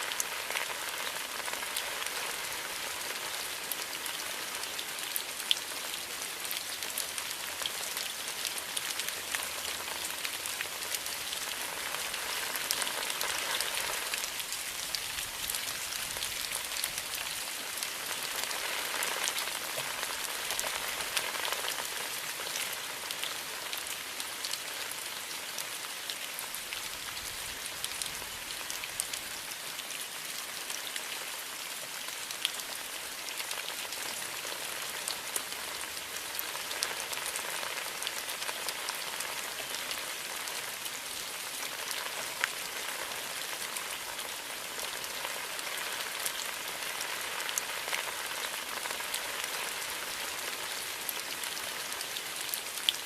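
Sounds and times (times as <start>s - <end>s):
rain drops ticking: 0.0s - 53.0s
steady rain hiss: 0.0s - 53.0s.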